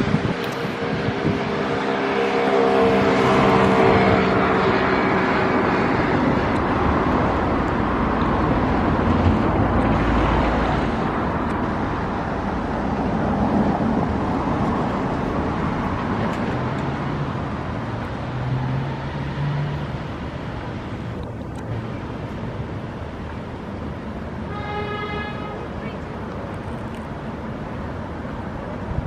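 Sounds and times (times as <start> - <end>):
engine running close by: 0.0 - 24.0
motor traffic noise: 0.0 - 29.0.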